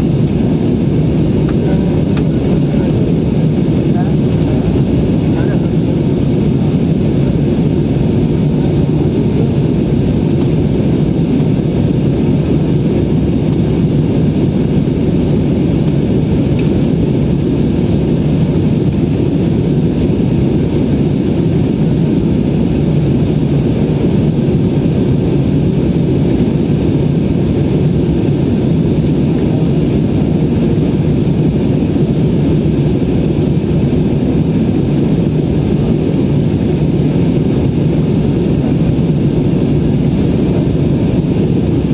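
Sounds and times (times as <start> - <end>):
aeroplane cabin drone: 0.0 - 41.9.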